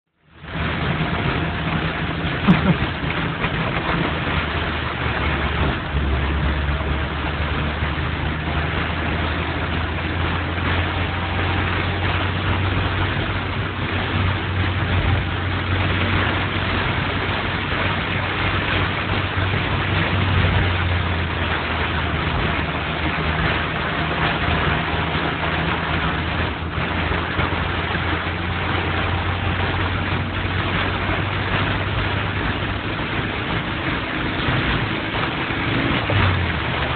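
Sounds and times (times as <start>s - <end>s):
car engines running: 0.1s - 36.9s
rain hissing on wet road: 0.2s - 36.9s.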